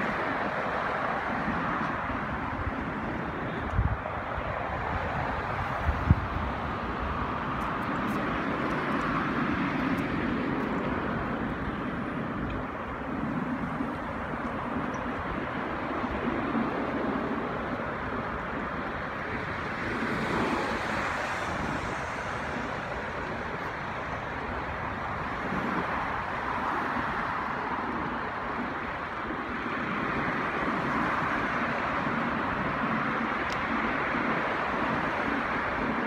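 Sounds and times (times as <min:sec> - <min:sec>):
cars passing on street: 0:00.0 - 0:36.0.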